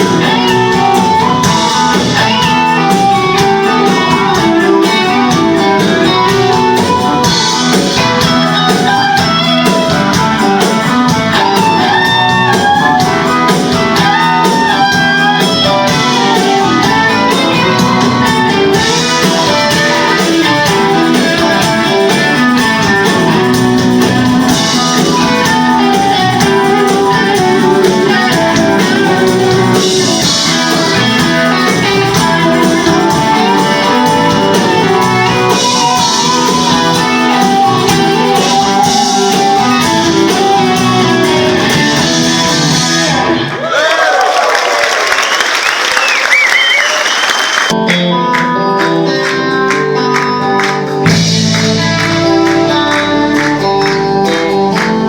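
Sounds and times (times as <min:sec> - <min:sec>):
electric guitar: 0:00.0 - 0:43.8, 0:46.0 - 0:55.0
live band playing: 0:00.0 - 0:43.8, 0:45.1 - 0:55.0.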